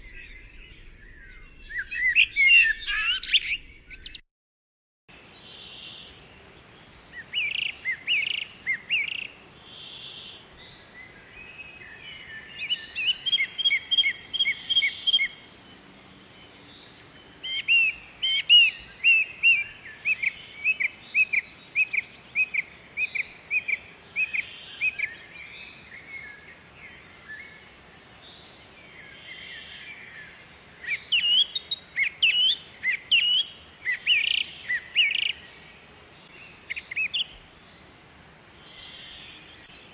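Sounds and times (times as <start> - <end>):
songbirds chirping: 0.0 - 4.2, 5.1 - 39.9.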